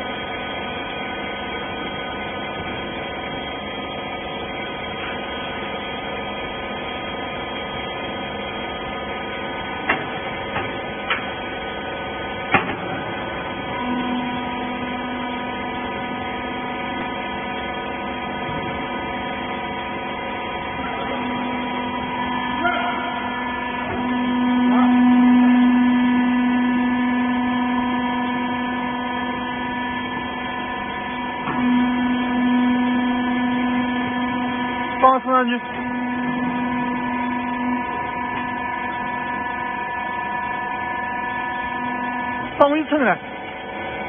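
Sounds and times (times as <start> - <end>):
hydraulic pump motor humming: 0.0 - 44.0.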